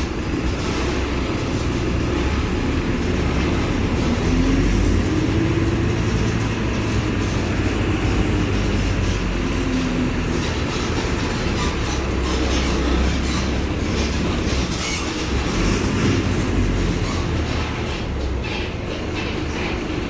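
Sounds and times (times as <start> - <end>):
diesel bus engine rumbling: 0.0 - 20.0.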